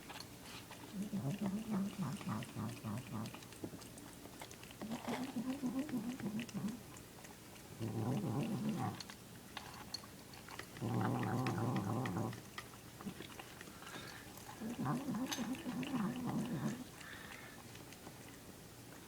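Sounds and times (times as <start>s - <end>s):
wet chewing clicks: 0.0s - 19.0s
cat making noises while eating: 0.4s - 9.2s, 10.6s - 18.7s.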